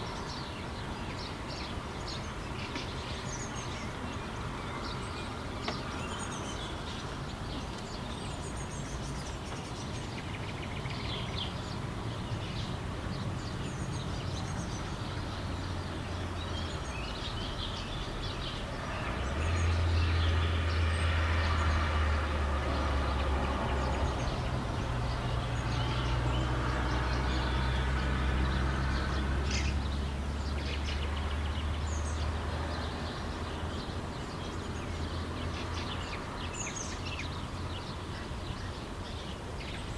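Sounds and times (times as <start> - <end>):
passing vehicle rumble: 0.0 - 39.9
small birds chirping: 0.0 - 39.9.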